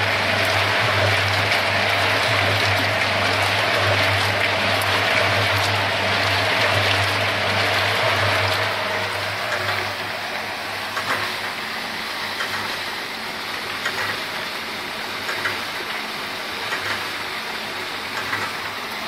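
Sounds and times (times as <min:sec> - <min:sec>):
wet concrete churning: 0:00.0 - 0:19.0.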